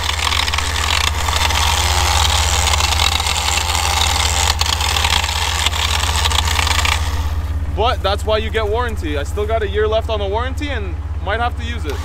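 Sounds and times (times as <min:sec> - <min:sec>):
electric winch grinding under load: 0:00.0 - 0:12.0.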